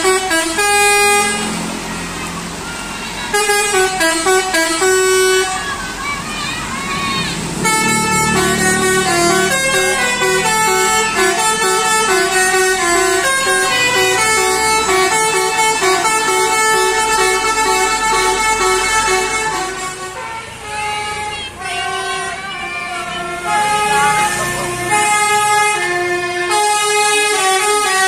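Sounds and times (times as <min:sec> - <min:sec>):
bus air horn playing tune: 0:00.0 - 0:01.9, 0:03.1 - 0:28.0.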